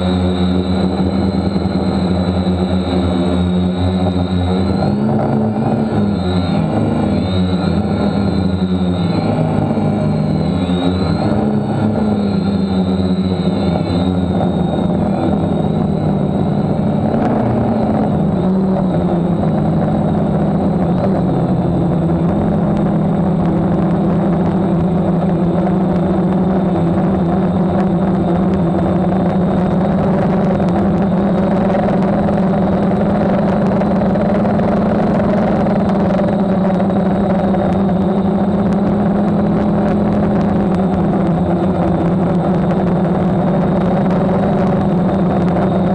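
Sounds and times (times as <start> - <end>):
drone motors humming: 0.0 - 45.9.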